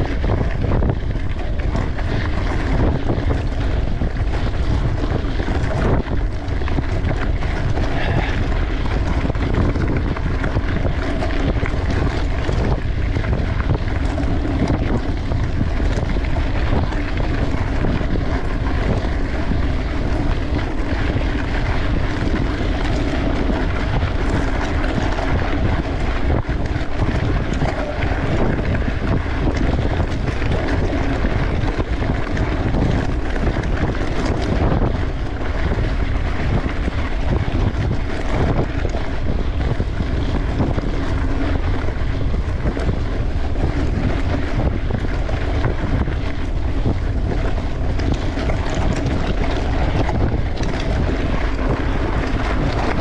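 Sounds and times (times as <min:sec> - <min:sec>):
mountain bike rumble on trail: 0:00.0 - 0:53.0
wind rush over microphone: 0:00.0 - 0:53.0.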